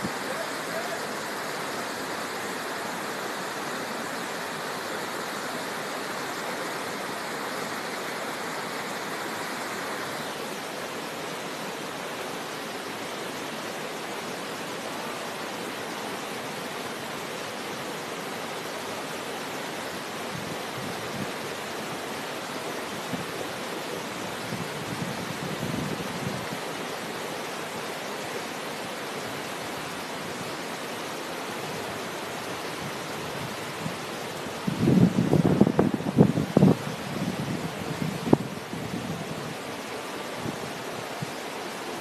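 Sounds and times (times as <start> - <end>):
river rapids rushing over rocks: 0.0 - 42.0.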